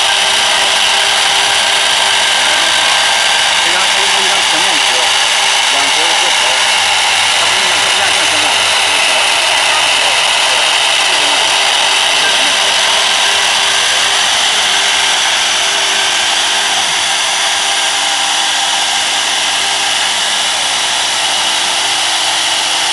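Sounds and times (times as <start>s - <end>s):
router spindle whining: 0.0s - 22.9s.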